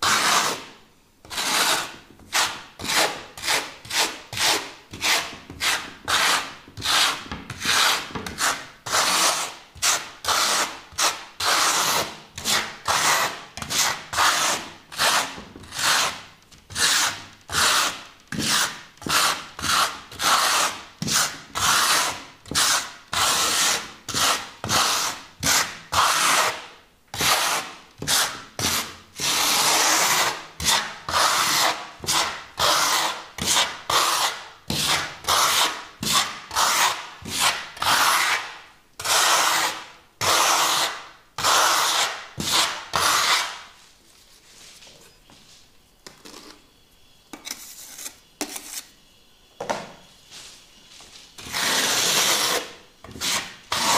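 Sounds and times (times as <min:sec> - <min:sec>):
trowel scraping plaster: 0:00.0 - 0:43.8, 0:47.4 - 0:49.0, 0:51.4 - 0:53.9.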